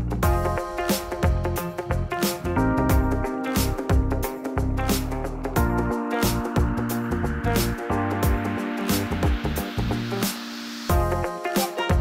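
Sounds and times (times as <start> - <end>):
steady drum beat: 0.0 - 10.0, 10.9 - 12.0.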